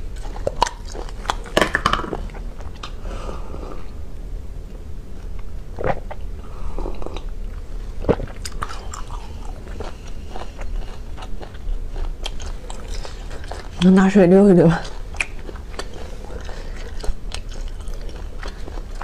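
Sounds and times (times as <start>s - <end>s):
person chewing close to microphone: 0.0s - 3.0s, 5.2s - 14.0s, 14.7s - 19.0s.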